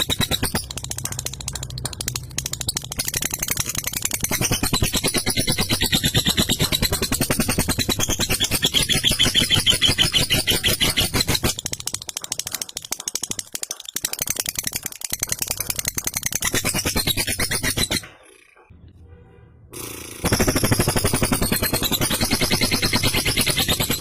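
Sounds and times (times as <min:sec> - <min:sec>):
lovebird chattering chirps: 0:00.0 - 0:18.6, 0:19.8 - 0:24.0.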